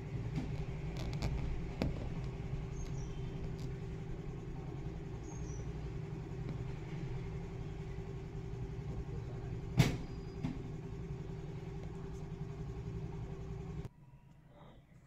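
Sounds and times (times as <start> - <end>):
motor humming: 0.0 - 13.9.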